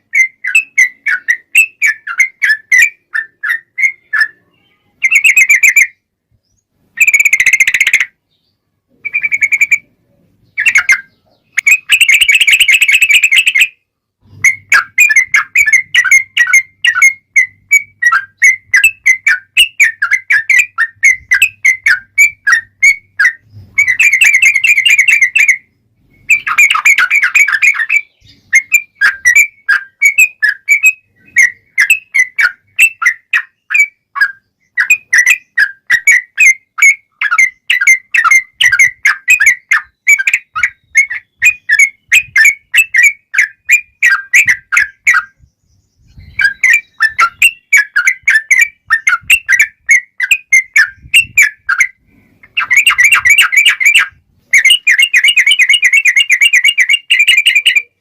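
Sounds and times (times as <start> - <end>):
bird singing bubbly trills: 0.0 - 58.0.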